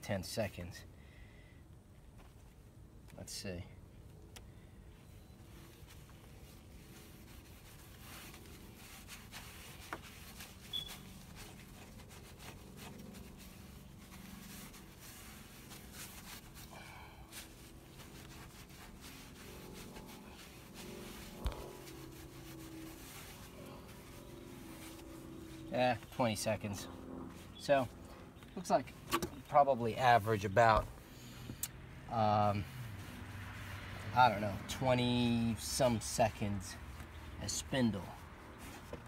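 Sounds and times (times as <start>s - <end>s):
paint mitt rubbing on wood: 5.4s - 31.1s, 32.4s - 39.0s.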